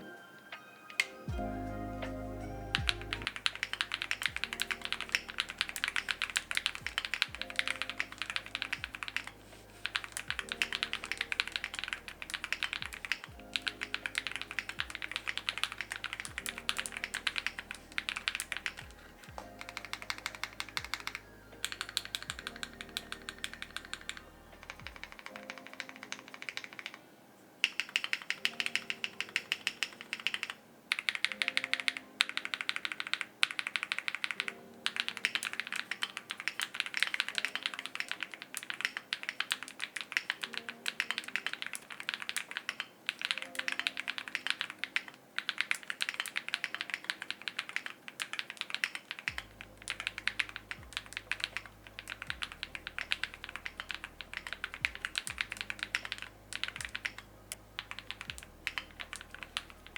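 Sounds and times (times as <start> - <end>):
mechanical keyboard typing: 2.7 - 27.0, 27.6 - 59.9.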